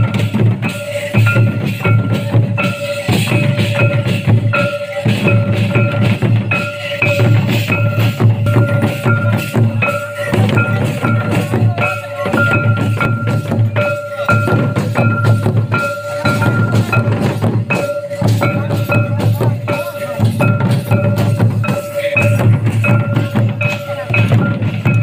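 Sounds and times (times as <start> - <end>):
barrel drums beating fast rhythm: 0.0 - 25.0.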